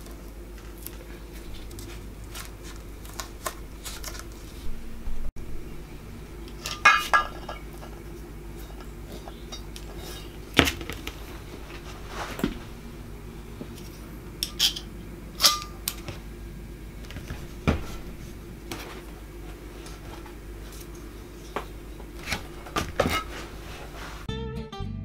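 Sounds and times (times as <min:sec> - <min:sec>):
steady low hum: 0:00.0 - 0:24.3.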